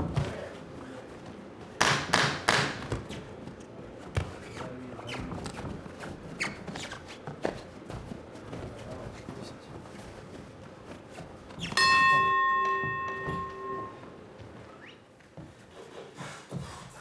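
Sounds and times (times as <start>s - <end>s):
shuffling footwork on canvas: 2.8s - 17.0s.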